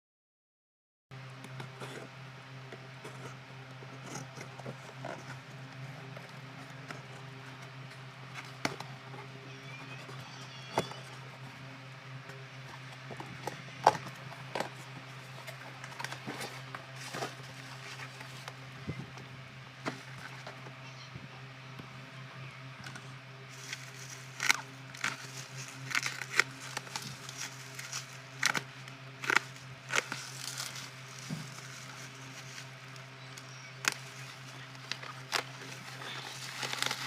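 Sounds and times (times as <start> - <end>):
steady low hum: 1.2 - 37.0.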